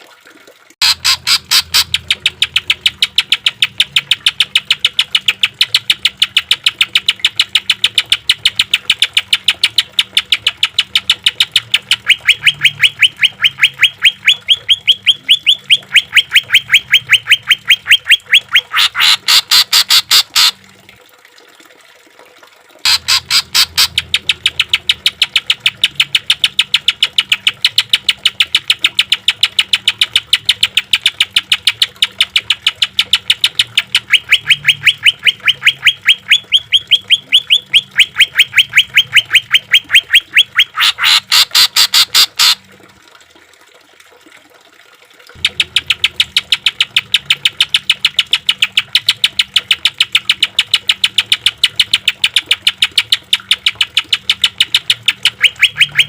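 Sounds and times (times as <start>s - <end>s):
bird singing sharp repeated notes: 0.8s - 20.6s, 22.9s - 42.6s, 45.4s - 56.0s.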